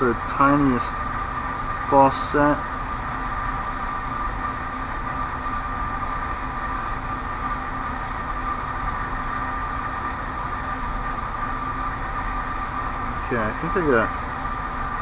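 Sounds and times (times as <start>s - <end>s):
background hum and hiss: 0.0s - 15.0s
constant high whine: 0.0s - 15.0s.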